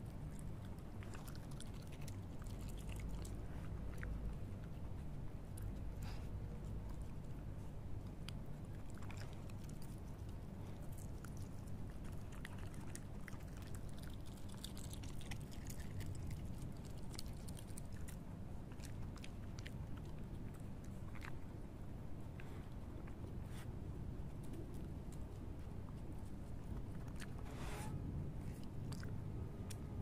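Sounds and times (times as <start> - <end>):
animal chewing with wet crunches: 0.0 - 27.5, 28.4 - 30.0
steady low hum: 0.0 - 30.0.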